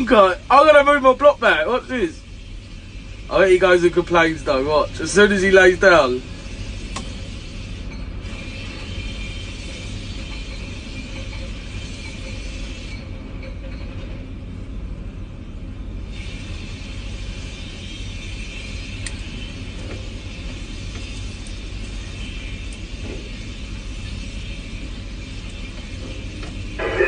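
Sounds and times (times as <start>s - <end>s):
crane machinery rumble: 0.0s - 27.0s.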